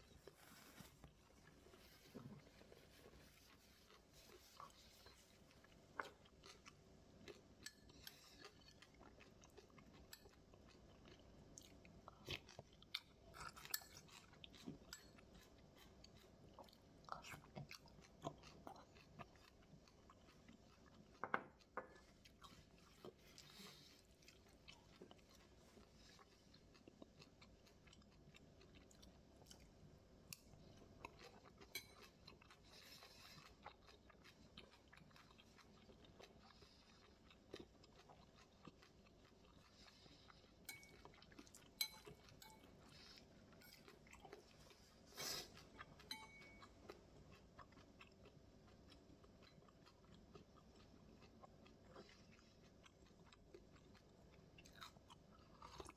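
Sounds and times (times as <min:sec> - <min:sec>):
chewing and crunching: 0:00.0 - 0:55.9.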